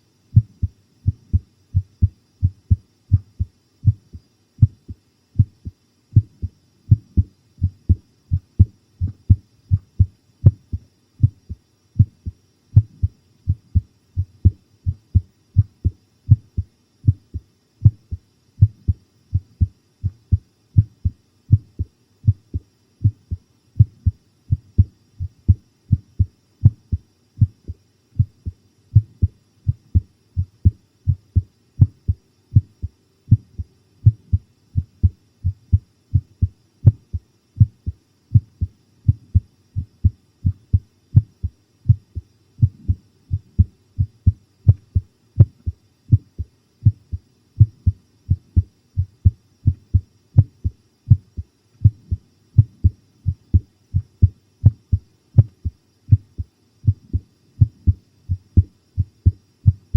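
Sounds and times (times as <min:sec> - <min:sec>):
heartbeat thumping: 0:00.3 - 0:59.9.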